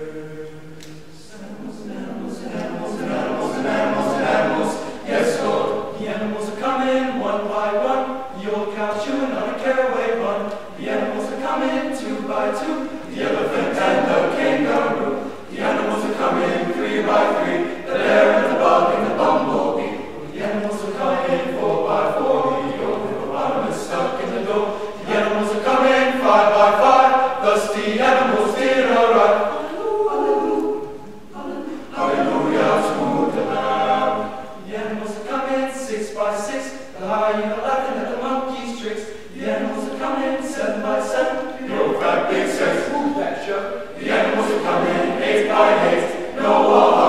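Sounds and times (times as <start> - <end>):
men's chorus singing a cappella: 0.0 - 47.0.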